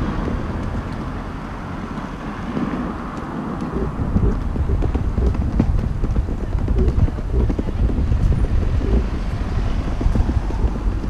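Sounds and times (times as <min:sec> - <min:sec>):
suitcase wheels clattering on cobblestones: 0:00.0 - 0:11.0
wind on microphone: 0:00.0 - 0:11.0.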